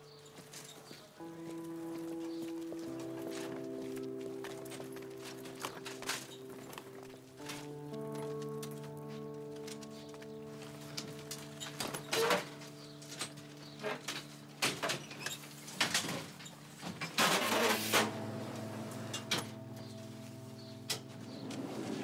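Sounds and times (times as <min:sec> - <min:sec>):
droning music chord: 0:00.0 - 0:22.0.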